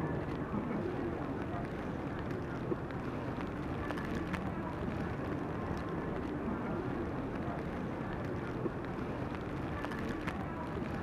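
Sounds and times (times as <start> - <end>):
faint crackles and clicks: 0.0 - 11.0.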